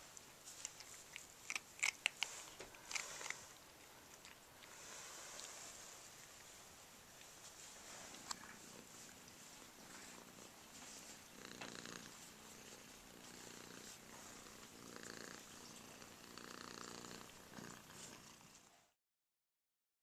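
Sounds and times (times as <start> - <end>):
cat purring: 0.6 - 19.0.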